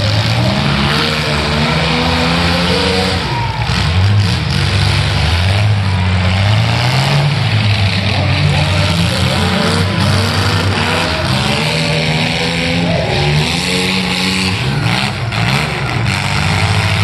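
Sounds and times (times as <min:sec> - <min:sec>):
pickup truck engines revving: 0:00.0 - 0:17.0.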